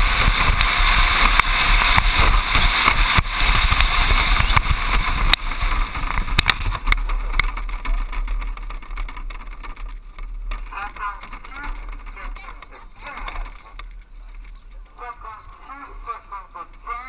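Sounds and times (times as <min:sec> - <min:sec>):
cart knocks and rattles: 0:00.0 - 0:17.0
wheels rolling on asphalt: 0:00.0 - 0:17.0.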